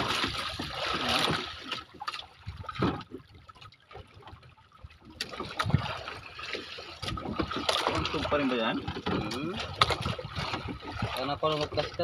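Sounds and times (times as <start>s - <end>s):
water sloshing against boat hull: 0.0s - 12.0s.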